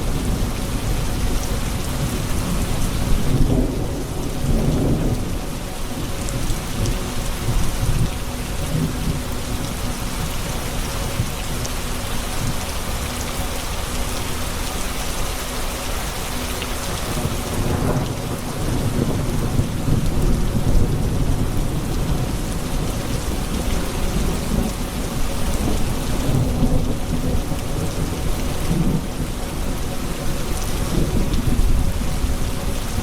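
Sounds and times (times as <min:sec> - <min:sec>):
low rumble of thunder: 0:00.0 - 0:11.4, 0:16.9 - 0:33.0
heavy rain: 0:00.0 - 0:33.0.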